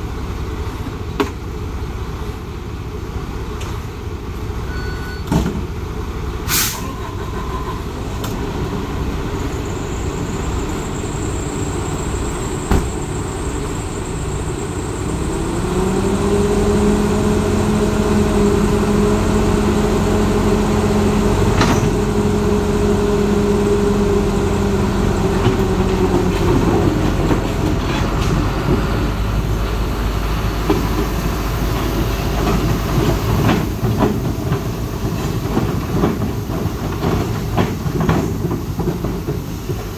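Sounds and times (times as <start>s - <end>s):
excavator diesel engine revving: 5.7s - 39.9s.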